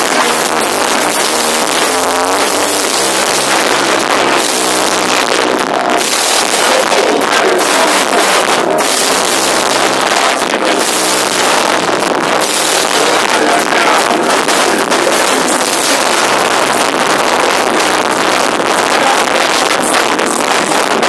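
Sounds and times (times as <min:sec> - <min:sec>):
distorted live rock band: 0:00.0 - 0:21.0.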